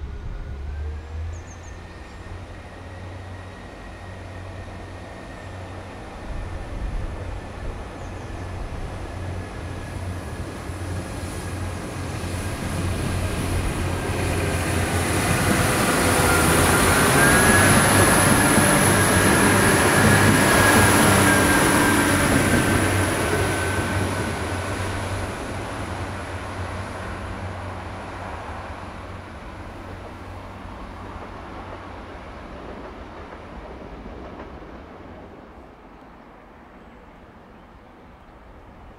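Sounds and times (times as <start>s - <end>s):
diesel train passing: 0.0s - 38.9s.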